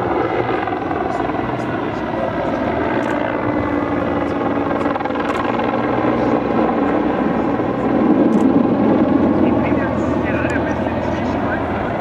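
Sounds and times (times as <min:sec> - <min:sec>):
aircraft flying over: 0:00.0 - 0:12.0.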